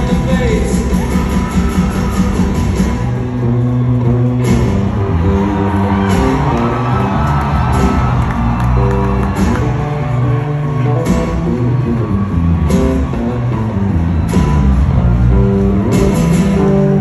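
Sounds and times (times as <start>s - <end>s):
crowd shouting and whooping: 0.0s - 17.0s
electric bass guitar: 0.0s - 17.0s
live band music: 0.0s - 17.0s.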